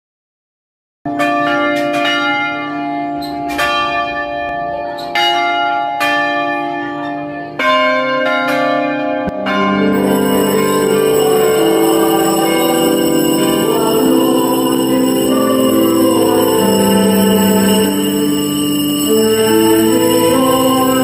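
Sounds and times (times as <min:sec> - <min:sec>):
church bells clanging: 0:01.1 - 0:21.0.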